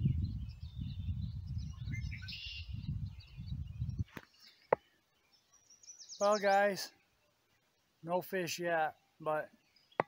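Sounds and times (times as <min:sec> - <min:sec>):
birds chirping and twittering: 0:00.0 - 0:10.0.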